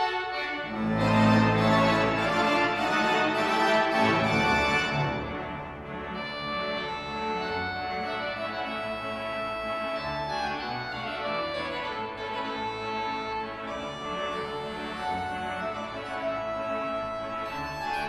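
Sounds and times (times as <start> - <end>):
pipe organ playing chords: 0.0 - 18.0.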